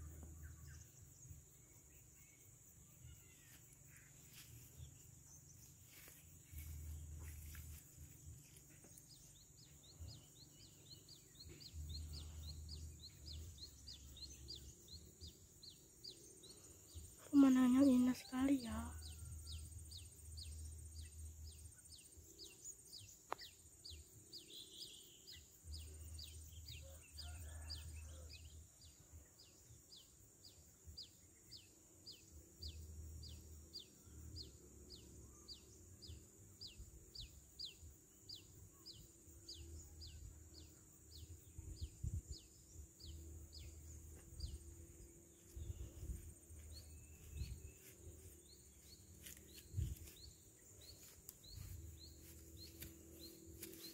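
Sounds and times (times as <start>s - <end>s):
high insect drone: 0.0s - 53.9s.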